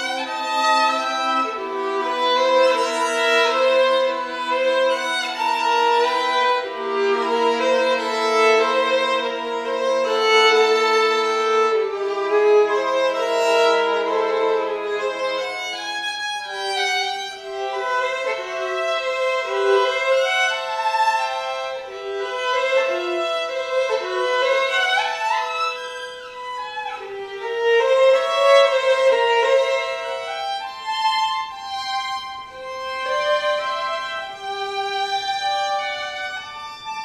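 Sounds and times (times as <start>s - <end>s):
violin and string duet: 0.0s - 37.0s.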